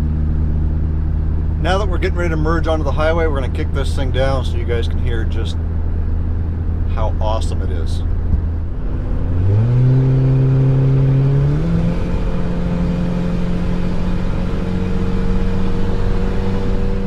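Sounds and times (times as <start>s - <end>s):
car engine revving: 0.0s - 17.0s
loud noisy exhaust: 0.0s - 17.0s.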